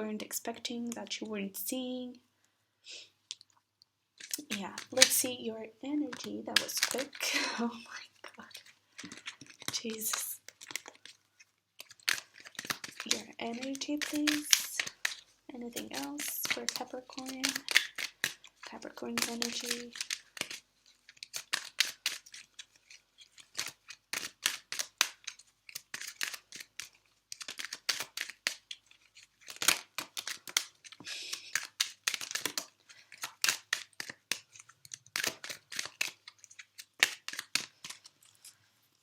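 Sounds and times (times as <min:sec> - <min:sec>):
cards being shuffled: 0:04.2 - 0:38.6.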